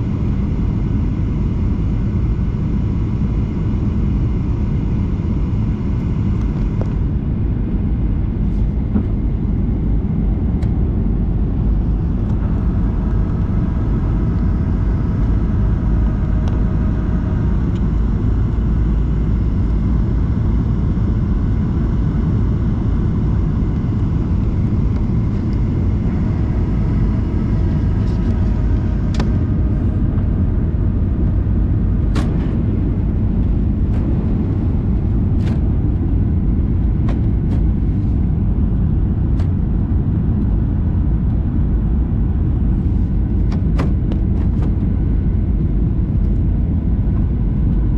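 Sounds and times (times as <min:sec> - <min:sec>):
airplane cabin rumble: 0:00.0 - 0:47.9
faint jet engine whine: 0:00.0 - 0:47.9.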